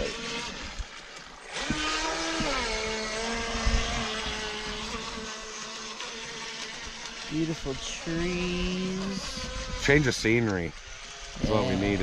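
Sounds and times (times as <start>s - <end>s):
model speedboat motor whining: 0.0s - 12.0s.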